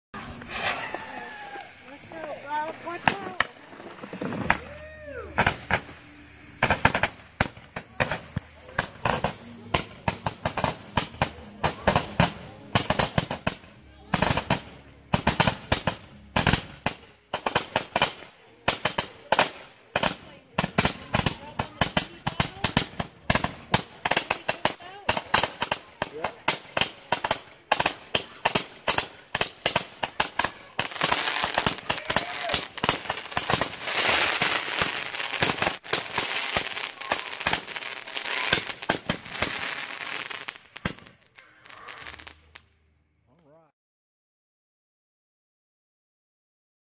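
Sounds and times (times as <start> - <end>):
fireworks launch reports: 0.2 - 42.6
crackling hiss: 0.2 - 42.8.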